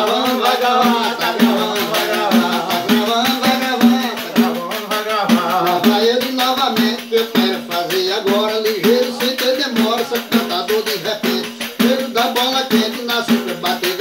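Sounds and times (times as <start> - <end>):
frame drums with jingles: 0.0 - 14.0
man singing: 0.0 - 14.0.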